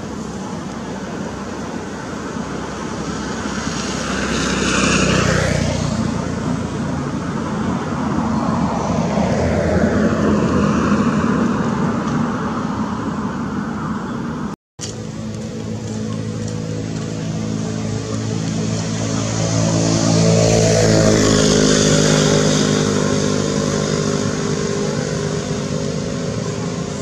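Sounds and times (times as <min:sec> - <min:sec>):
motor vehicles passing: 0:00.0 - 0:27.0.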